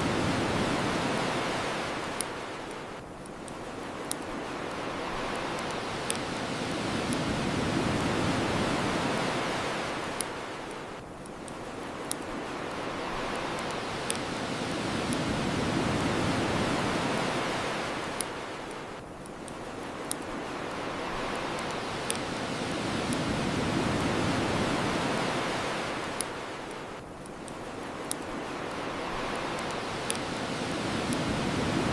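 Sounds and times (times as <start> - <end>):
ocean surf washing: 0.0 - 31.9
bonfire crackling pops: 0.2 - 31.9.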